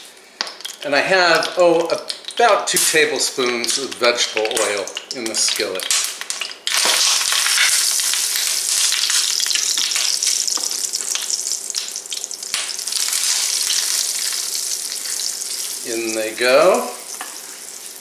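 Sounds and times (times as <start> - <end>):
steak sizzling in oil: 2.1 - 18.0.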